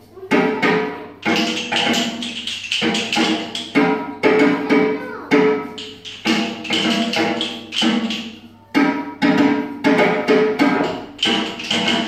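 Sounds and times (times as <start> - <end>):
woody percussive beat: 0.2 - 12.0.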